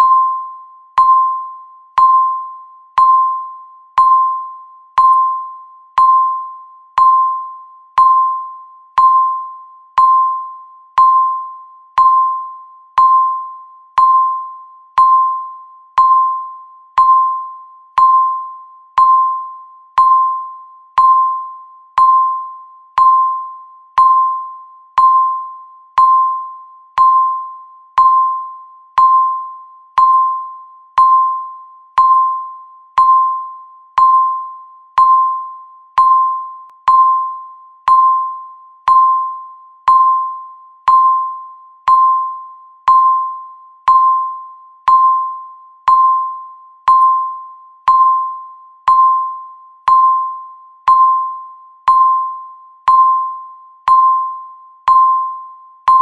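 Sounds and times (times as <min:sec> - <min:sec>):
countdown timer beeping: 0:00.0 - 0:56.0.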